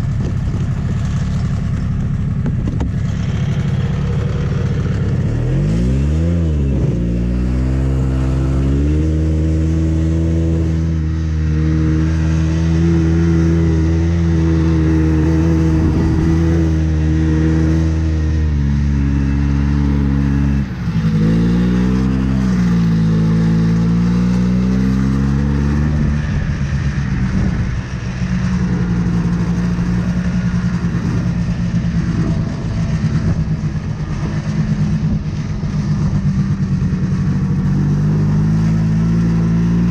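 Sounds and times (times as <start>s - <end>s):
snowmobile engine revving: 2.6s - 39.9s.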